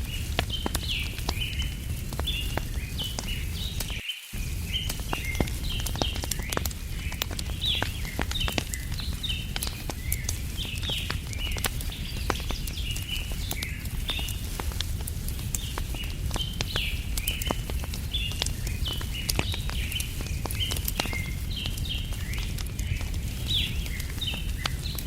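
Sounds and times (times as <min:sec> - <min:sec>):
low fire rumble: 0:00.0 - 0:25.0
small birds chirping: 0:00.0 - 0:25.0
wood fire crackling and popping: 0:00.0 - 0:25.0.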